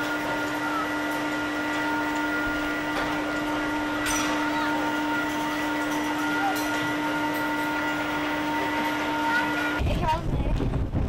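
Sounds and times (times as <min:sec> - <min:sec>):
fairground ride machinery drone: 0:00.0 - 0:11.0.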